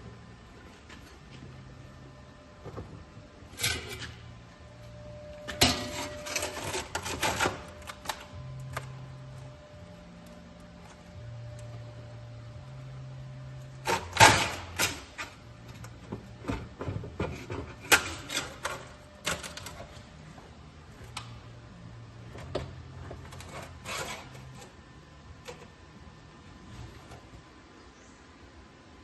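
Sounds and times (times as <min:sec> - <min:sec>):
low hum: 0:00.0 - 0:28.4.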